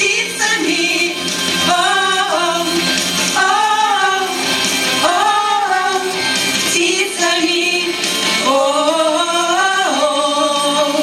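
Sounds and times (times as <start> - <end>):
instrumental accompaniment: 0.0 - 11.0
woman singing: 0.0 - 11.0.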